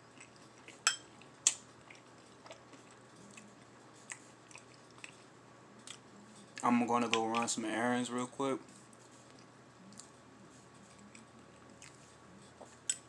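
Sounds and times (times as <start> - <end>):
soft wet chewing: 0.1 - 7.5, 8.7 - 13.0.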